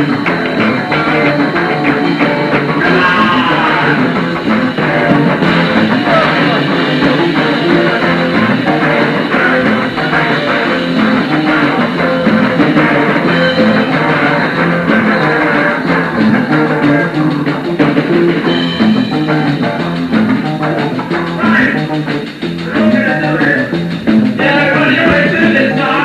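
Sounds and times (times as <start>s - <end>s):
bass guitar: 0.0s - 26.0s
drums: 0.0s - 26.0s
electric guitars: 0.0s - 26.0s.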